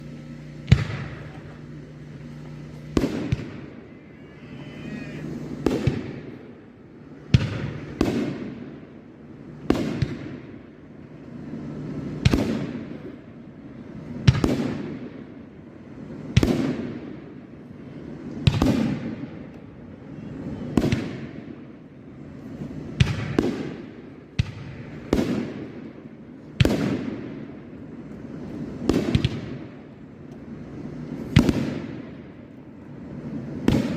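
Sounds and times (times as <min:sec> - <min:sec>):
firework shots: 0:00.0 - 0:33.9.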